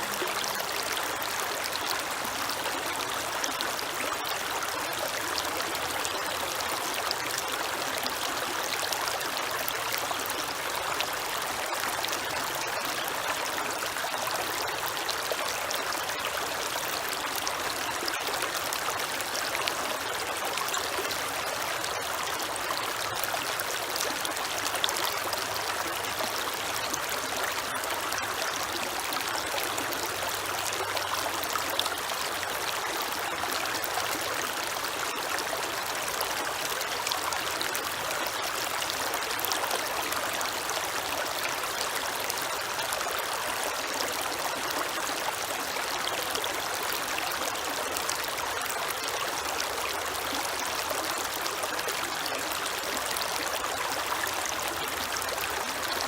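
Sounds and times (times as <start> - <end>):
creek flowing: 0.0 - 56.0.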